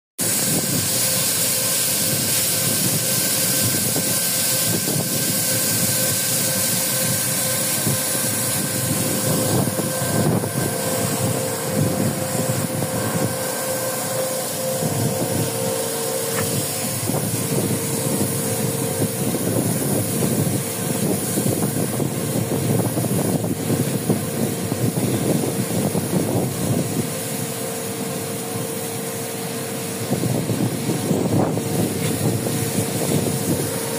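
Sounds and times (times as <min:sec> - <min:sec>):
machinery hissing: 0:00.2 - 0:33.9.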